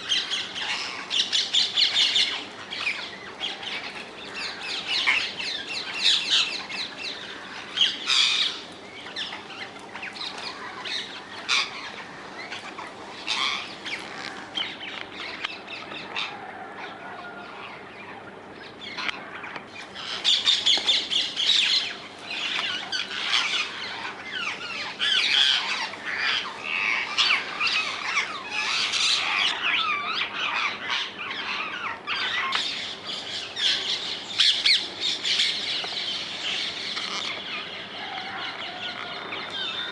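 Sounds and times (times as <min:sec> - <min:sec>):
parakeets screeching squawks: 0:00.0 - 0:18.2, 0:18.8 - 0:39.9.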